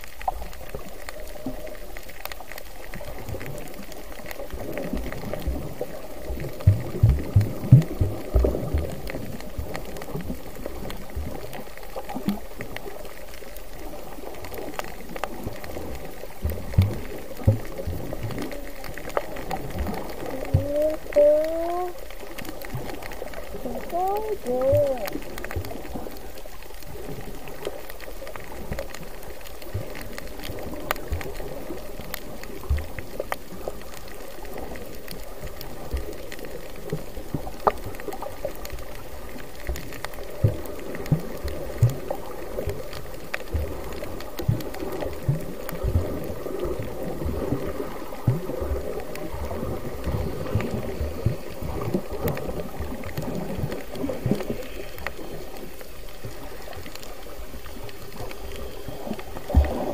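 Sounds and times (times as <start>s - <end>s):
faint clicks: 0.0s - 59.9s
underwater water rush: 0.0s - 59.9s.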